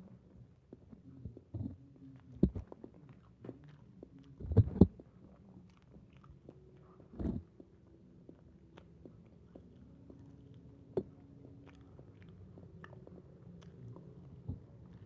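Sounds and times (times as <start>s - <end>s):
chewing chicken: 1.8s - 15.0s.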